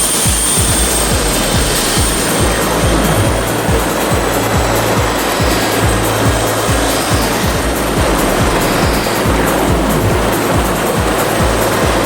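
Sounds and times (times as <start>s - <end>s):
helicopter running: 0.0s - 12.0s
music with bass drum and hi-hat: 0.0s - 12.0s.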